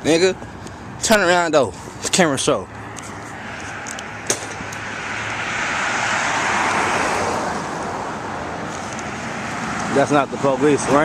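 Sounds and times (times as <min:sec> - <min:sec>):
road vehicle passing: 0:00.0 - 0:11.0.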